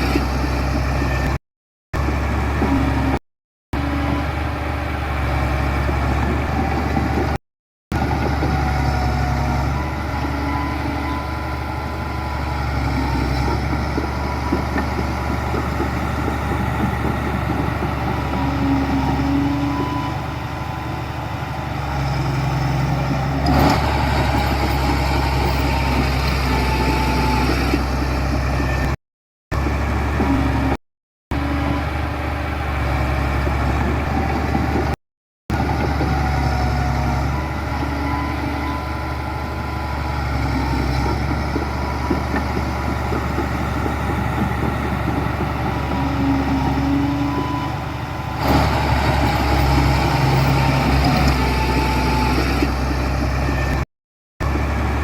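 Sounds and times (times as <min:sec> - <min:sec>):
diesel machinery engines running: 0:03.8 - 0:55.0.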